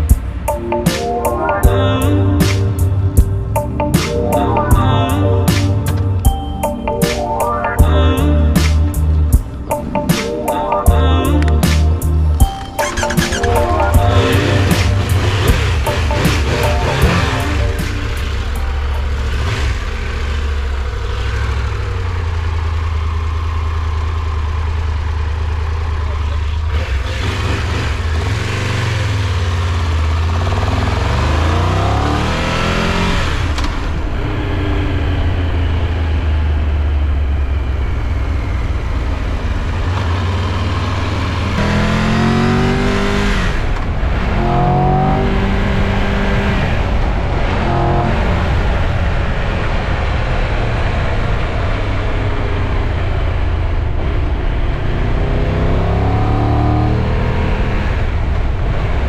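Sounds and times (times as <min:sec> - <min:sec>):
motorcycle engine accelerating: 0:10.9 - 0:59.0.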